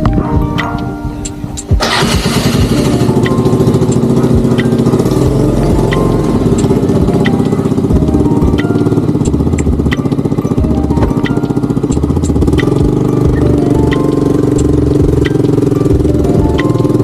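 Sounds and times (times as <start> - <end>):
vehicle engine starting and running: 1.2 - 17.0.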